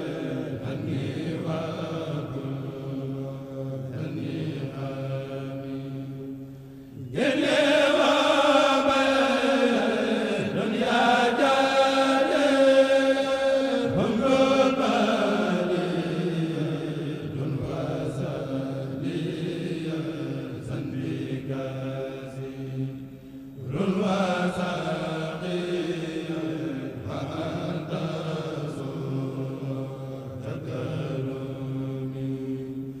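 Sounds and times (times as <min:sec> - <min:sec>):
group chanting a low tone: 0:00.0 - 0:33.0
lead chanter singing: 0:00.0 - 0:33.0.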